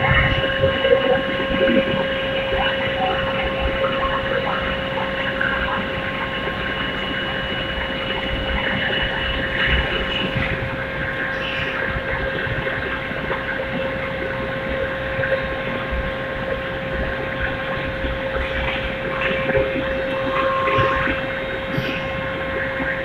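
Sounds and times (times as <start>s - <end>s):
high electrical hum: 0.0s - 23.0s
rumbling machinery: 0.0s - 23.0s.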